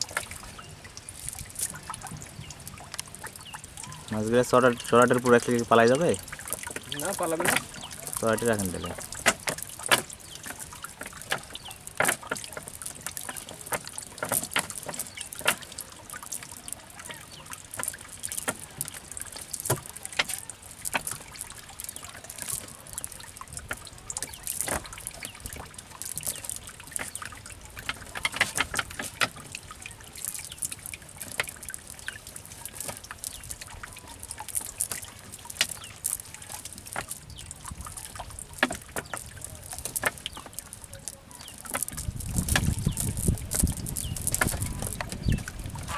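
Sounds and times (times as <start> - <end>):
water splashing: 0.0 - 45.9
water trickling: 0.0 - 45.9.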